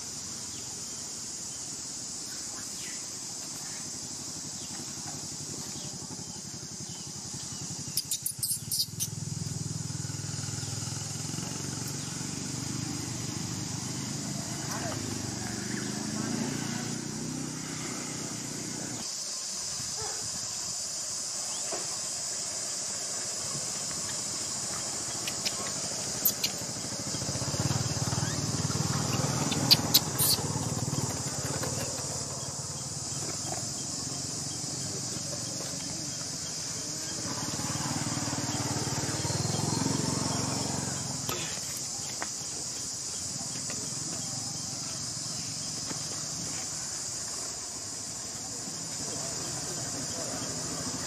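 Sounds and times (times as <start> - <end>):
high-pitched insect buzz: 0.0 - 47.6.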